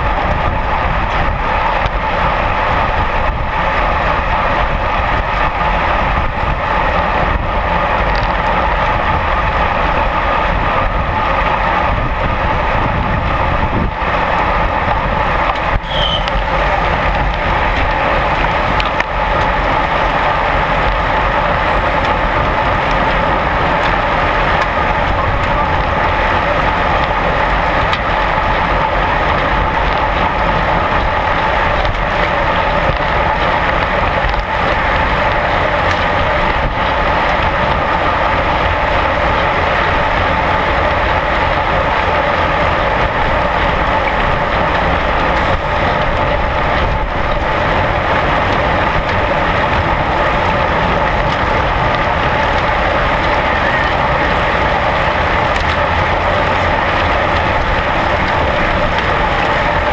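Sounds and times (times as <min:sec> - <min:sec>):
bicycle tyre and road noise: 0:00.0 - 0:59.9
wind rush on camera: 0:00.0 - 0:59.9.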